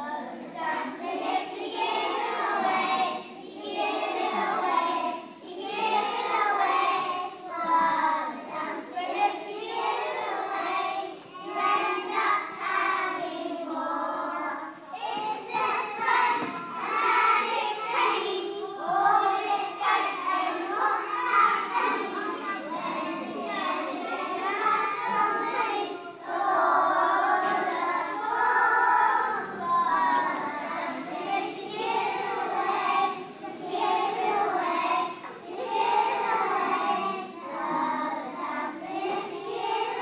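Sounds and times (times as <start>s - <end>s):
young children singing: 0.0s - 40.0s.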